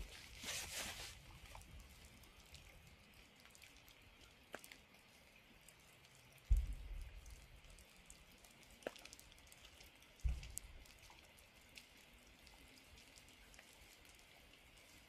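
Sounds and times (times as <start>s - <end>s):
gentle rain pattering: 0.0s - 15.0s.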